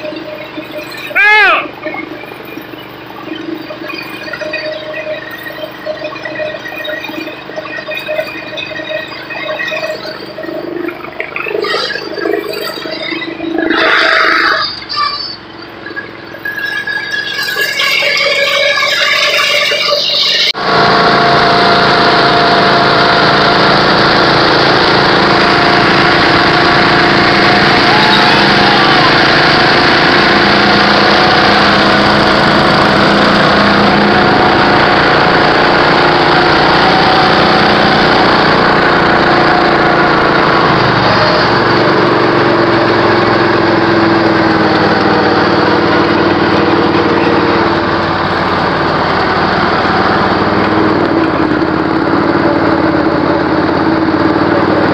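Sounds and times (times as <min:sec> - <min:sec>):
other mower engines nearby: 0:00.0 - 0:54.9
riding lawn mower engine: 0:00.0 - 0:54.9.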